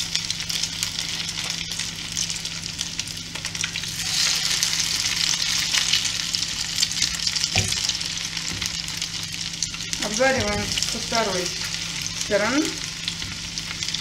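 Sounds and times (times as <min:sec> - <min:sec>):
pancakes sizzling in oil: 0:00.0 - 0:14.0.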